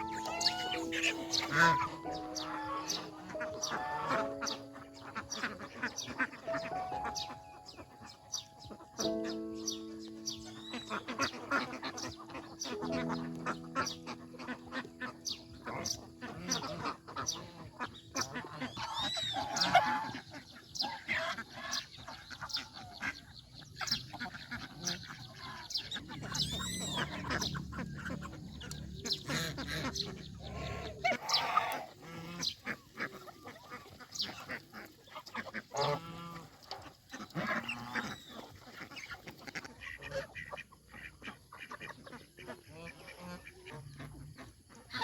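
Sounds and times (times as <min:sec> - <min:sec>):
geese honking: 0:00.0 - 0:45.0.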